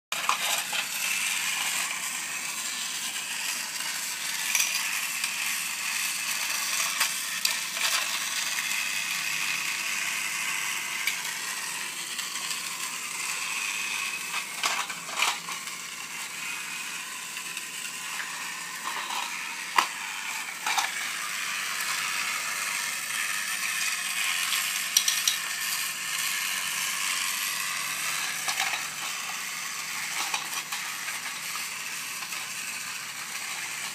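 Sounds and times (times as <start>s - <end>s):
toy train motor whirring: 0.1s - 33.9s.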